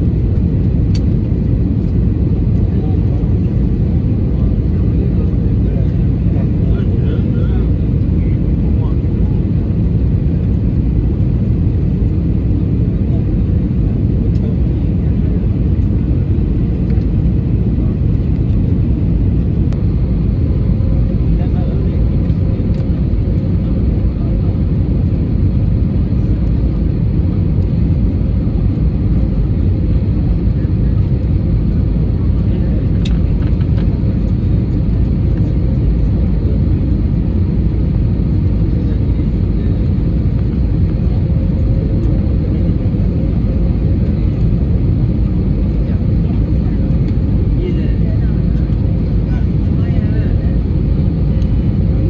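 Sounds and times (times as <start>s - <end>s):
airliner engine rumble in cabin: 0.0s - 52.0s.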